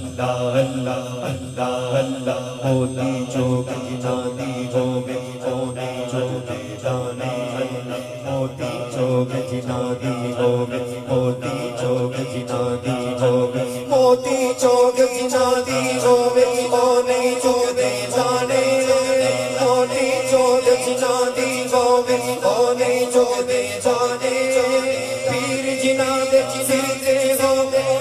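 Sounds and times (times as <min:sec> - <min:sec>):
droning chant: 0:00.0 - 0:28.0
man chanting into a microphone: 0:00.0 - 0:28.0.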